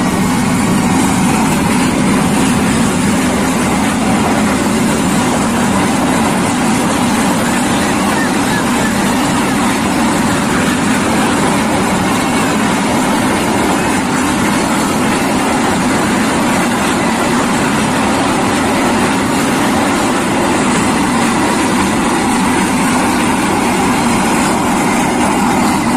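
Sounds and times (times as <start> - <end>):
freight train running on rails: 0.0 - 25.9.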